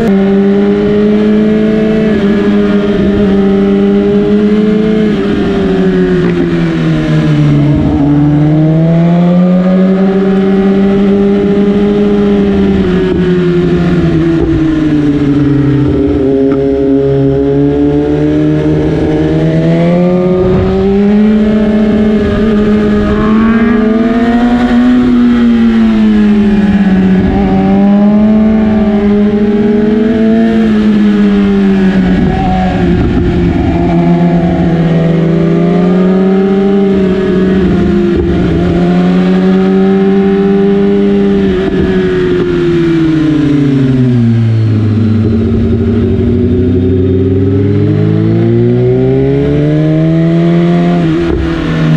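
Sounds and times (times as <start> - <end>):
motorcycle engine revving: 0.0 - 51.9
wind and road noise: 0.0 - 51.9.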